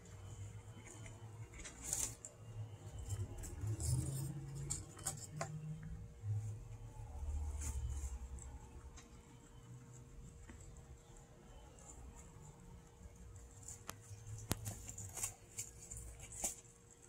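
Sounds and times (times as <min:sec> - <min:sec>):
guinea pig chewing grass: 0:00.0 - 0:17.0.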